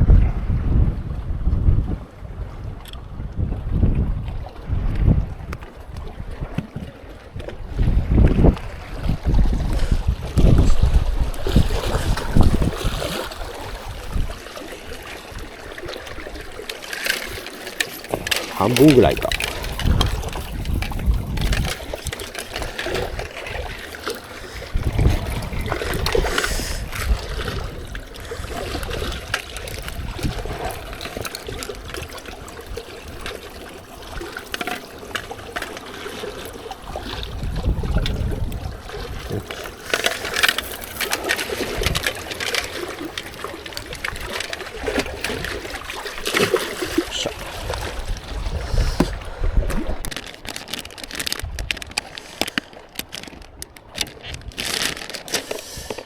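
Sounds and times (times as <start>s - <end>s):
wind buffeting microphone: 0.0s - 34.3s, 36.6s - 50.3s
water lapping at shore: 0.0s - 56.0s.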